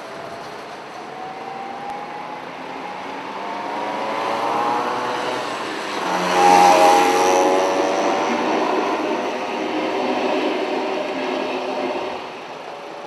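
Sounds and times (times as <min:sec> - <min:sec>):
engine approaching: 0:00.3 - 0:12.6.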